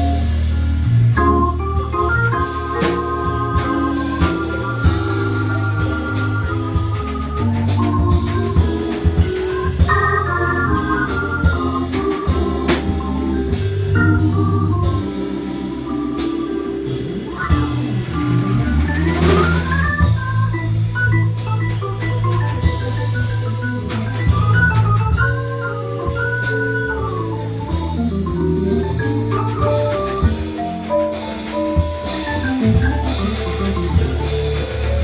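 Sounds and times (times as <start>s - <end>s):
bass line: 0.0s - 35.0s
drum kit playing: 0.0s - 35.0s
organ chords: 0.0s - 35.0s
vibraphone notes: 1.2s - 35.0s.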